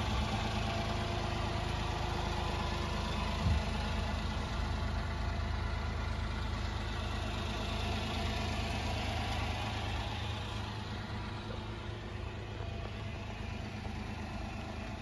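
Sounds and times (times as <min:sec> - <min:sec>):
small truck engine idling: 0:00.0 - 0:15.0.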